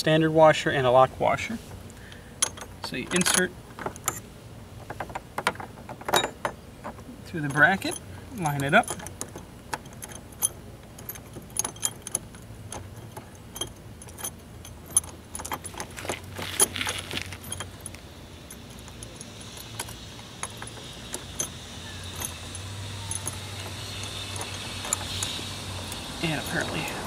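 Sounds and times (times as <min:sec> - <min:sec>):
metal bolts and washers clinking: 0:02.3 - 0:27.0.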